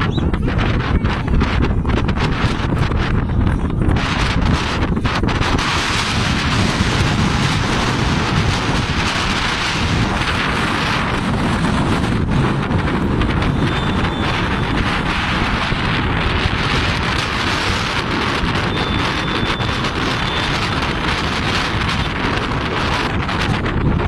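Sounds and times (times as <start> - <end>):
wind blowing across microphone: 0.0 - 24.0.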